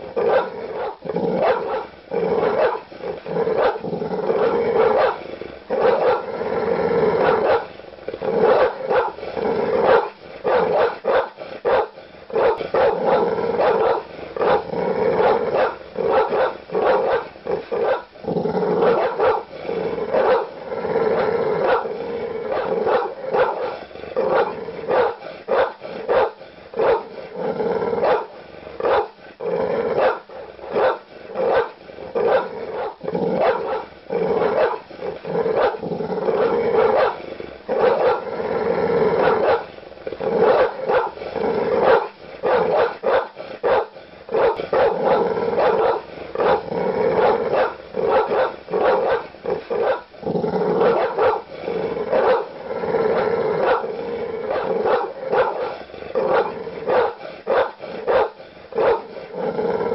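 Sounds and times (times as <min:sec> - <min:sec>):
large dog barking: 0:00.0 - 0:06.4, 0:07.0 - 0:27.3, 0:27.9 - 0:29.2, 0:29.9 - 0:38.4, 0:39.1 - 0:59.4
dog growling: 0:00.0 - 0:59.9.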